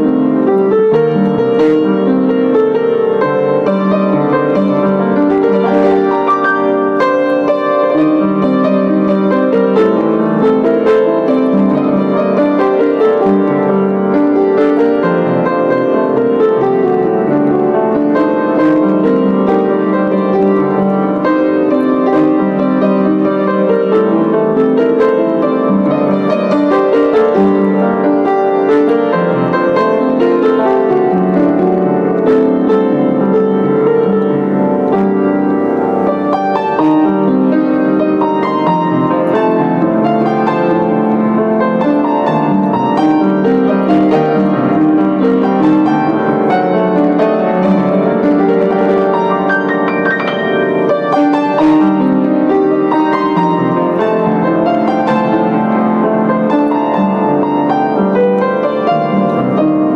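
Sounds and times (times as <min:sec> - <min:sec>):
solo piano melody: 0:00.0 - 0:59.9.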